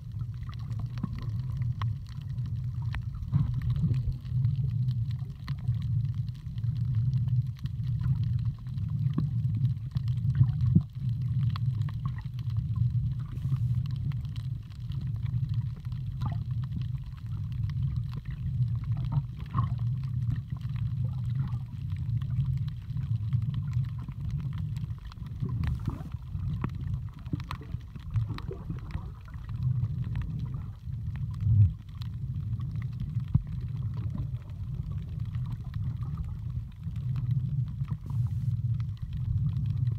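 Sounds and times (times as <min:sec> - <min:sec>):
underwater rumble of moving water: 0:00.0 - 0:39.9.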